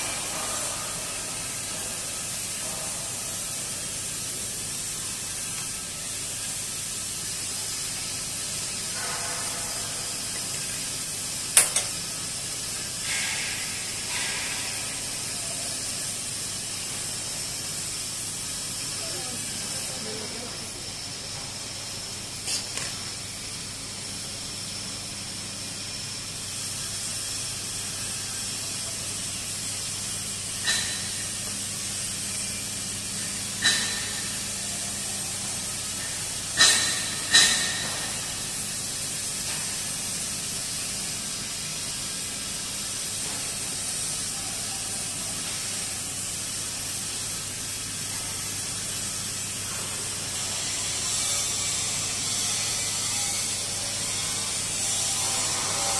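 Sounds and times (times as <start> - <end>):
arc welding hiss: 0.0 - 55.9.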